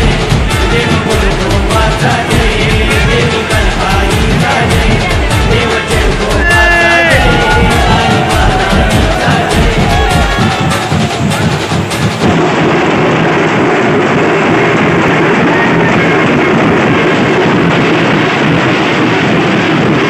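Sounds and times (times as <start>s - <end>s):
dhol drums beaten with sticks: 0.0s - 20.0s.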